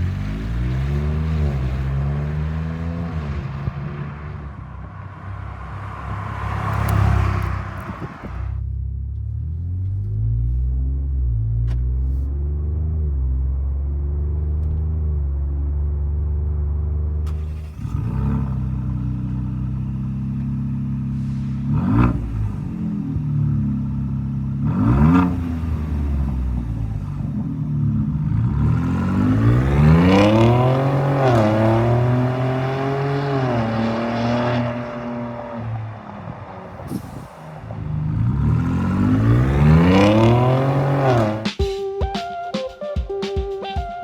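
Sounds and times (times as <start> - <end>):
car engine idling and revving: 0.0 - 41.6.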